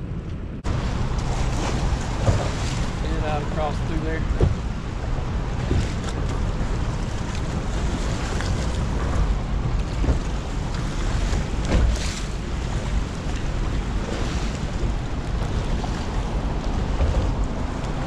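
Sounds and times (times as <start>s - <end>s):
rough churning water: 0.0s - 18.0s
wind buffeting microphone: 0.0s - 18.0s.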